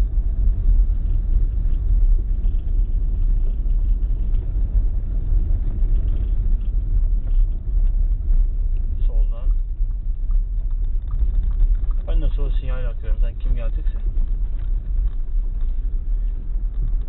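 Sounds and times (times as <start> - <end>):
tyres rumbling over gravel: 0.5 - 17.0.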